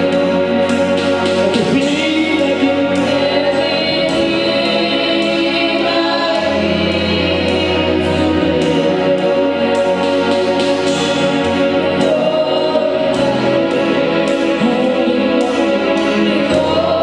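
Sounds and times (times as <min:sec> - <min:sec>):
group singing gospel music: 0:00.0 - 0:17.0
instrumental accompaniment: 0:00.0 - 0:17.0.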